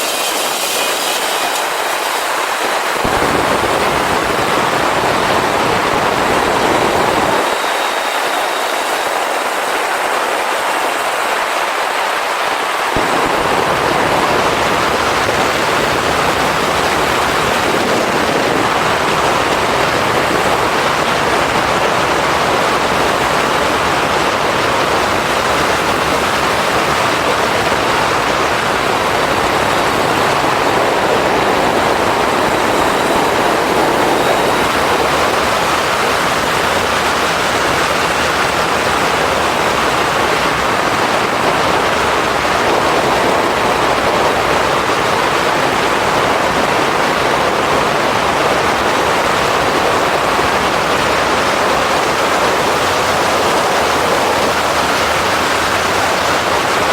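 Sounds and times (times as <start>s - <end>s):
wind and road noise rushing: 0.0s - 56.9s.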